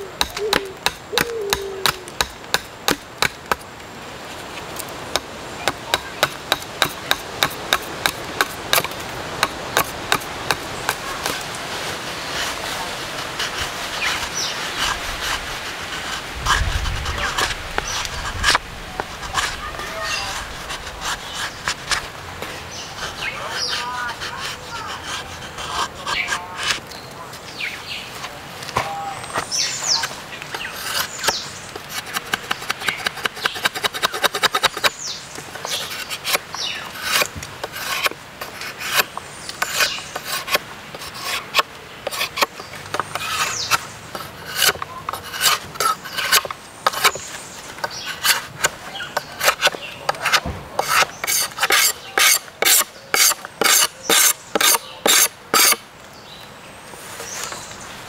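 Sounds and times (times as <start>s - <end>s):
knife scraping bamboo: 4.8s - 26.9s, 29.3s - 55.8s.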